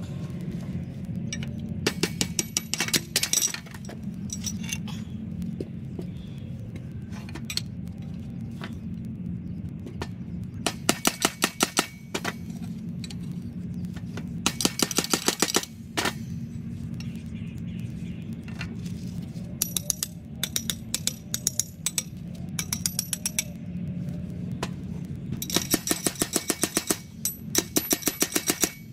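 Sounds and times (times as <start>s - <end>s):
low hum: 0.0s - 28.9s.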